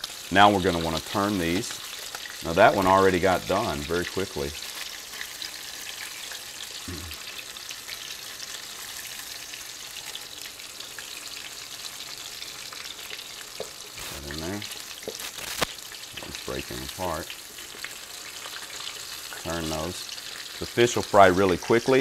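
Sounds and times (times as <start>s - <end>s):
fish frying in hot oil: 0.0s - 22.0s.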